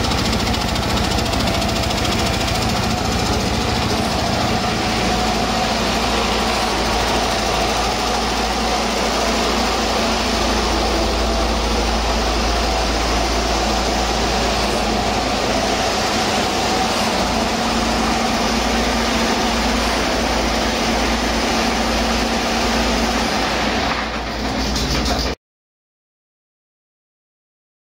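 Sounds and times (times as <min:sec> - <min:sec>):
diesel truck engine running: 0:00.0 - 0:25.3.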